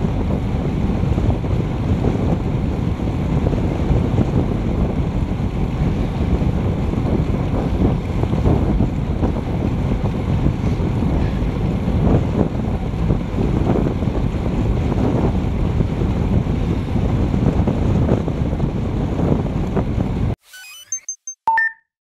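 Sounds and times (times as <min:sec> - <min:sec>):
wind rumbling on microphone: 0:00.0 - 0:20.4.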